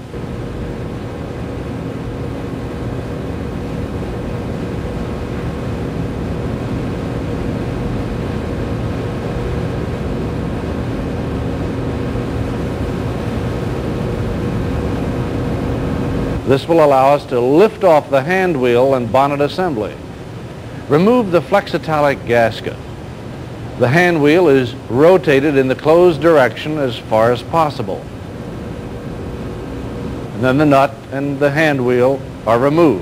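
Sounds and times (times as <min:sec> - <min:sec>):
steady low hum with tones: 0:00.0 - 0:33.0.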